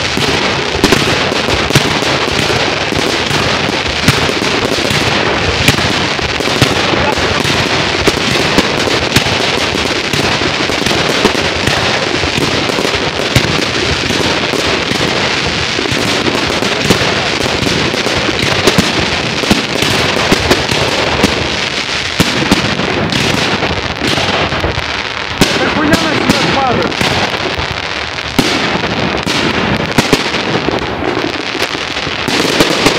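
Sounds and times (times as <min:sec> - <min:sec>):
fireworks crackling and banging: 0:00.0 - 0:32.9.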